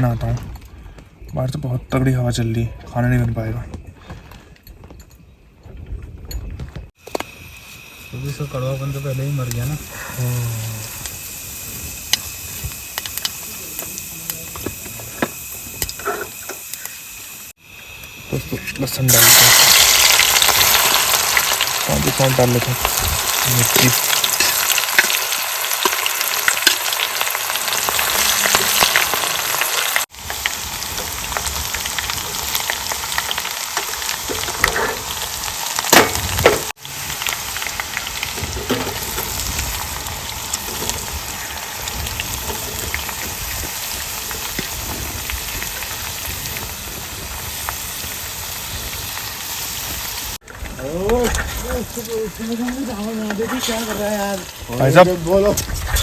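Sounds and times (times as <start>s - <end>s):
garlic sizzling in hot oil: 6.9s - 56.0s.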